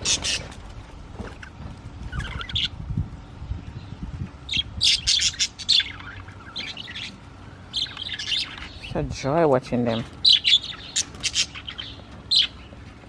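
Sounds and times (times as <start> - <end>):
budgerigars chirping and chattering: 0.0 - 2.8, 3.7 - 13.0.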